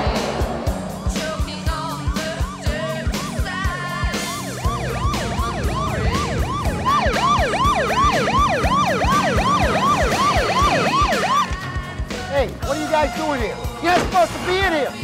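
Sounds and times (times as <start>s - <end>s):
police siren yelping: 0.0s - 12.0s.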